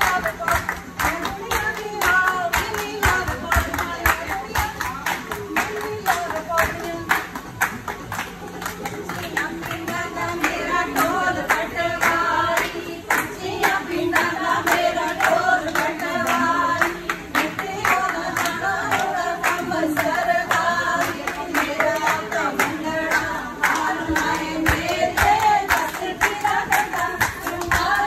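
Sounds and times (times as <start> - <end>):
rhythmic hand-clapping: 0.0 - 28.0
women singing together: 0.0 - 28.0.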